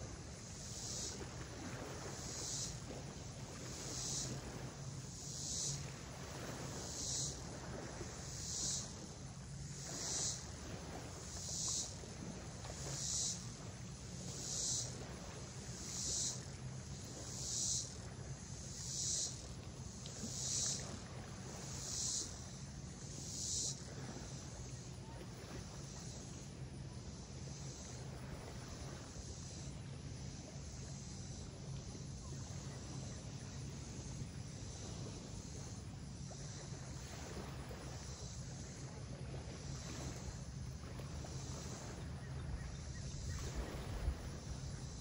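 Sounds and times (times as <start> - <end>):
insect high buzzes: 0.0 - 45.0
steady low hum: 0.0 - 45.0.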